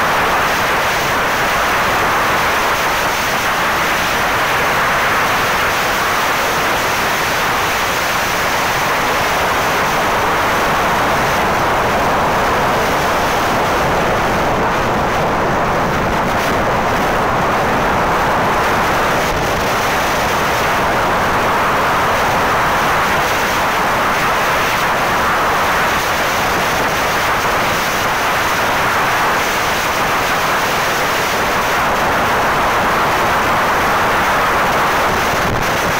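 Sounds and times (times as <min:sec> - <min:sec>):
wind and road noise: 0:00.0 - 0:35.9.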